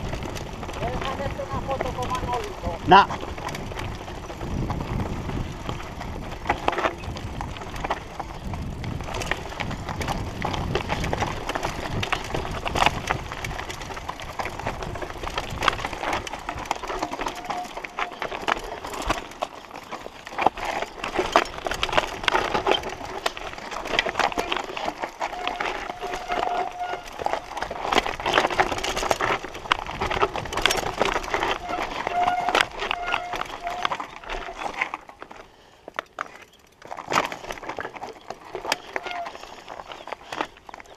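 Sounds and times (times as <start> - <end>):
wind rumbling on microphone: 0.0 - 34.8
bike rattling over stones: 0.0 - 40.9.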